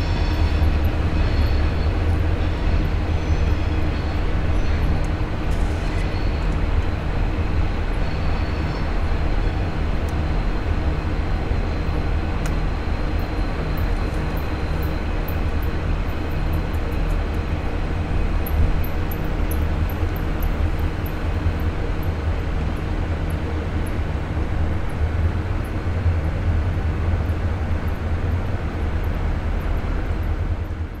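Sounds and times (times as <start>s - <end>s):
diesel locomotive engines rumbling: 0.0s - 31.0s.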